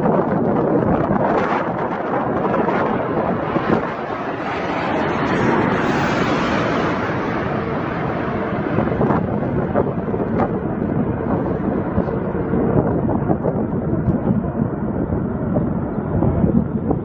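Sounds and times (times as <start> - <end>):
jet engines rushing: 0.0 - 17.0
wind buffeting microphone: 0.0 - 17.0.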